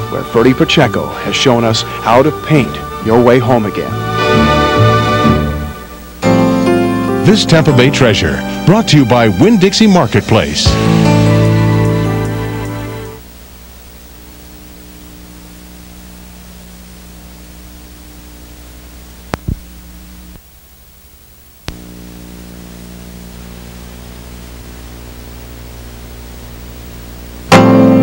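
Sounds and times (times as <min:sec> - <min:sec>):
electrical hum and hiss: 0:00.0 - 0:28.0.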